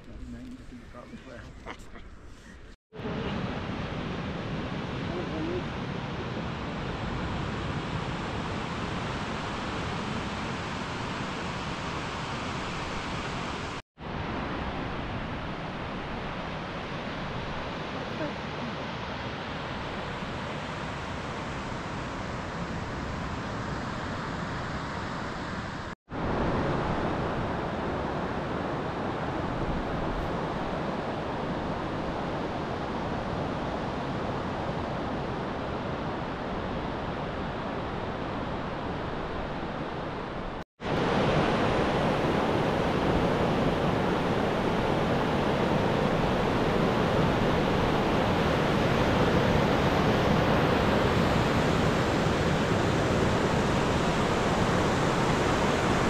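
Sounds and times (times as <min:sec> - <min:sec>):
waves breaking on beach: 0:03.0 - 0:56.0.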